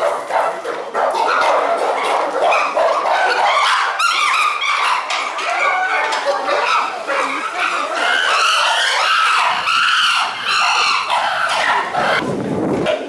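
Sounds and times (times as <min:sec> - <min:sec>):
chimpanzees screaming: 0:01.2 - 0:12.2.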